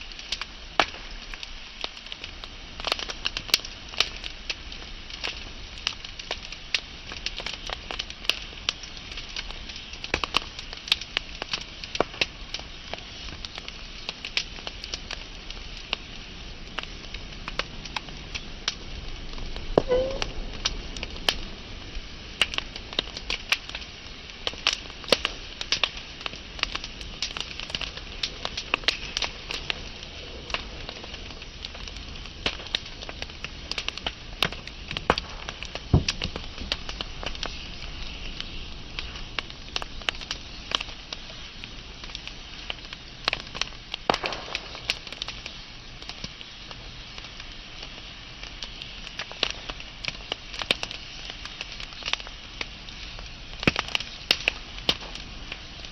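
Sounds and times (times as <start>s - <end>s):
steady fire hiss: 0.0s - 55.9s
wood fire crackling and popping: 0.0s - 55.9s.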